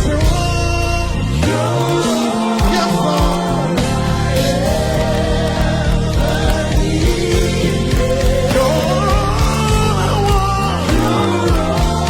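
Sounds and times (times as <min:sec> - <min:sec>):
band playing gospel music: 0:00.0 - 0:12.0
voices singing: 0:00.0 - 0:12.0.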